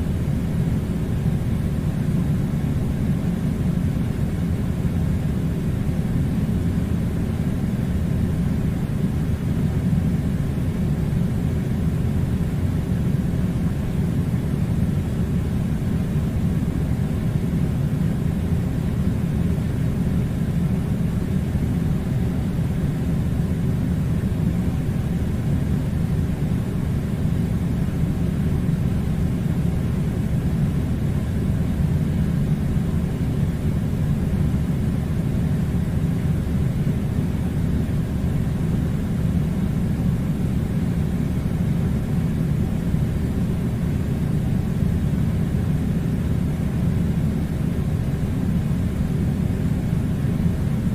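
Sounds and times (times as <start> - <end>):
air conditioner running: 0.0 - 50.9.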